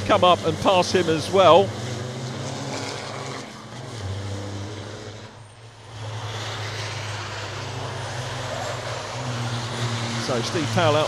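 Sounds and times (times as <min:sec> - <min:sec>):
diesel truck engines passing: 0:00.0 - 0:11.0.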